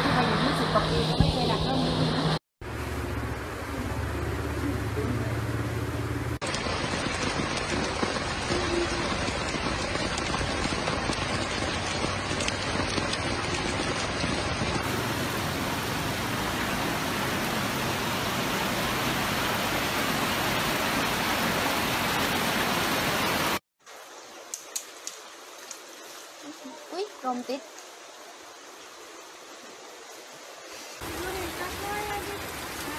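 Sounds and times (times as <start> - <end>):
heavy rain and rushing floodwater: 6.4 - 32.9.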